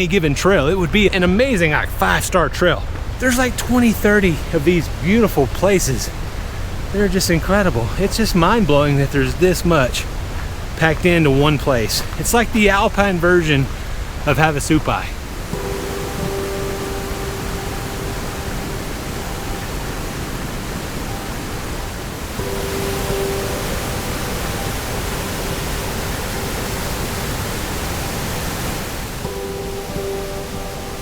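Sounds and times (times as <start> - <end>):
whitewater rushing: 0.0 - 31.0.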